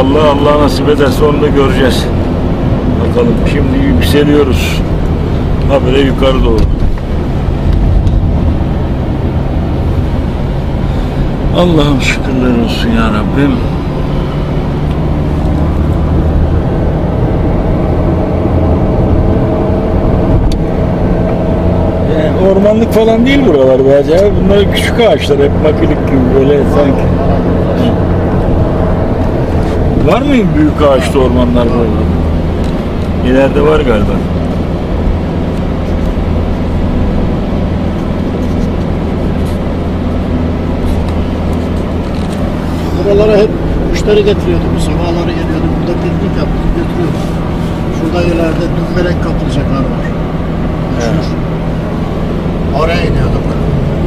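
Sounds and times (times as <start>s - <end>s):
car engine running: 0.0s - 54.0s
tyre road rumble: 0.0s - 54.0s.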